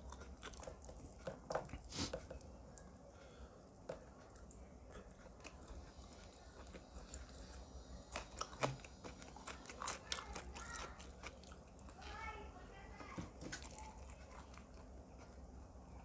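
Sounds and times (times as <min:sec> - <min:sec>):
person chewing crunchy food: 0:00.0 - 0:02.9, 0:03.9 - 0:12.0, 0:13.4 - 0:15.5.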